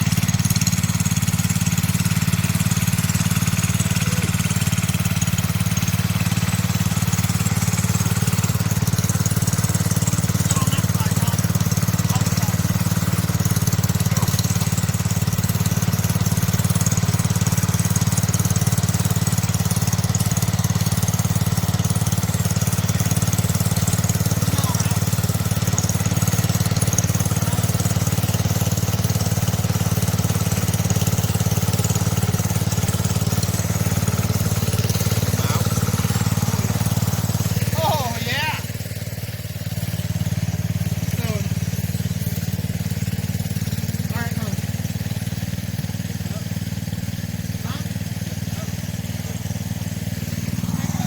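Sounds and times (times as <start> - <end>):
garden tractor engine running: 0.0 - 51.0.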